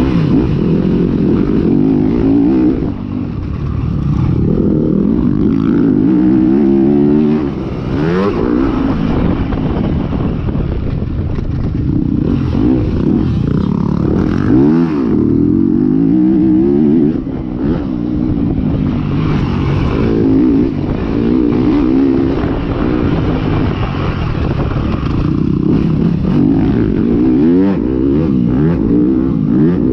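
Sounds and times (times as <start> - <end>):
motocross bike engine revving: 0.0 - 10.2, 11.5 - 29.9.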